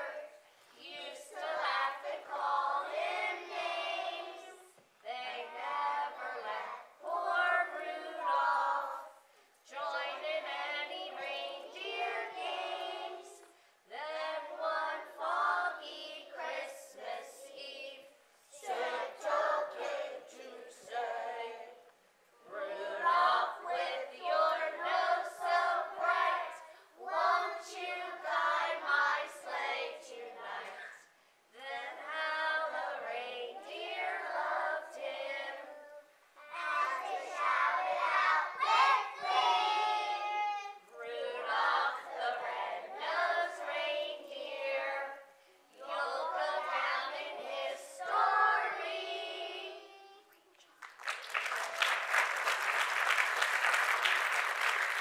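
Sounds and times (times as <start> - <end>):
children's choir singing: 0.0 - 50.3.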